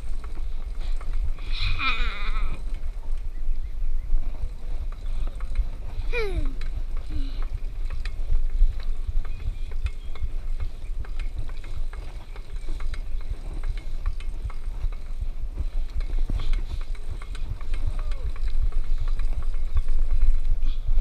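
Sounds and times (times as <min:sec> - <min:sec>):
bicycle clicks and ticks: 0:00.0 - 0:21.0
wind rumble: 0:00.0 - 0:21.0.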